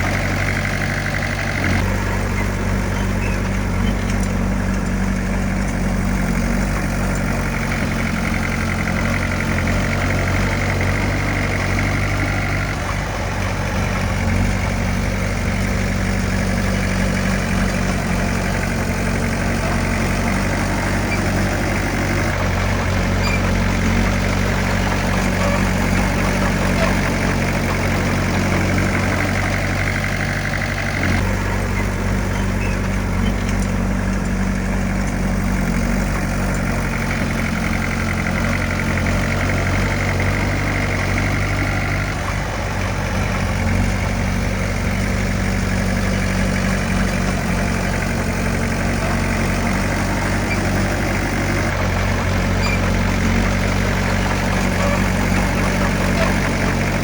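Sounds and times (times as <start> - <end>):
diesel engine of heavy machinery: 0.0 - 57.0.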